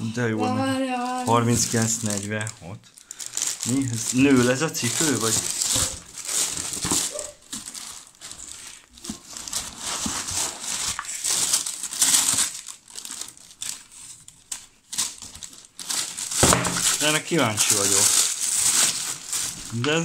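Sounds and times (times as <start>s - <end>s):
tissue paper crinkling: 0.7s - 20.0s.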